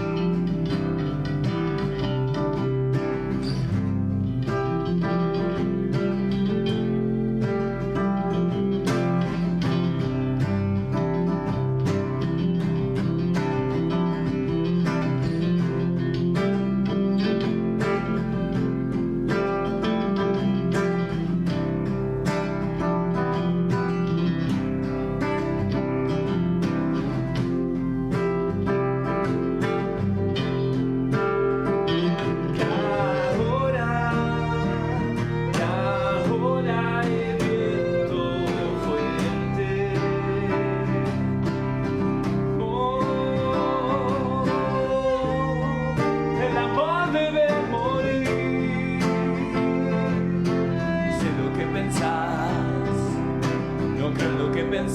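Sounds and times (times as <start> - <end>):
bending lead guitar melody: 0.0 - 54.9
strummed acoustic guitars: 0.0 - 54.9.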